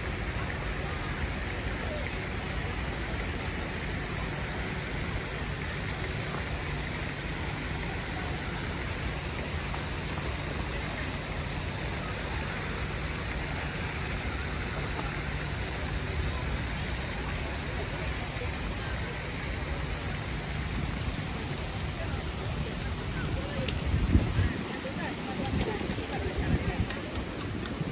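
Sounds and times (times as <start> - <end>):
rushing hiss of busy square: 0.0 - 27.9.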